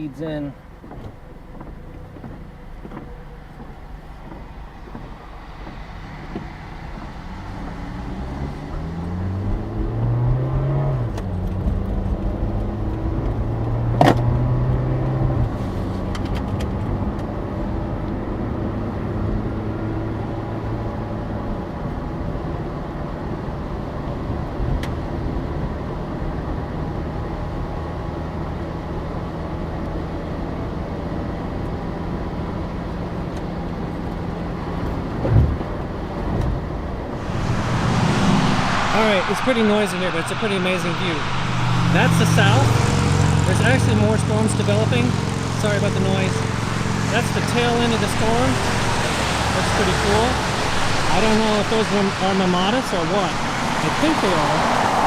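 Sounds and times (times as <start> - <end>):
car engine: 0.0 - 25.4, 28.1 - 55.0
road noise: 0.0 - 55.0.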